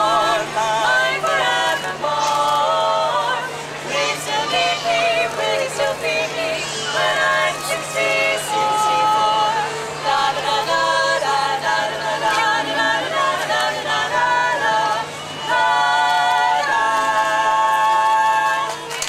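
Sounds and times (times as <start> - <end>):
women singing in harmony: 0.0 - 19.0.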